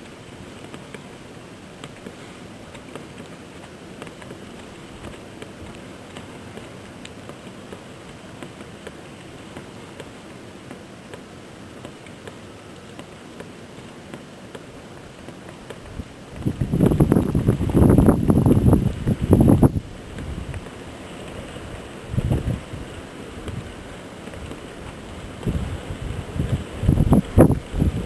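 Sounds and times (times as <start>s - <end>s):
hiss of falling snow: 0.0s - 28.0s.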